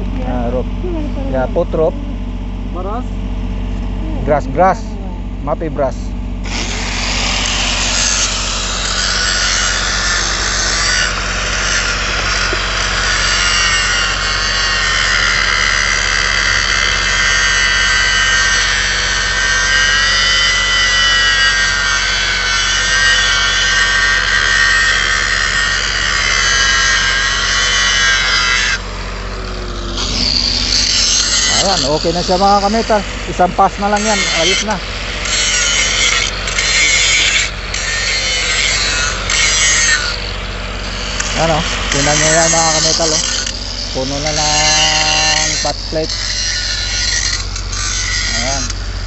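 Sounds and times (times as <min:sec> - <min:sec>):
low steady hum: 0:00.0 - 0:49.0
angle grinder grinding metal: 0:03.6 - 0:49.0.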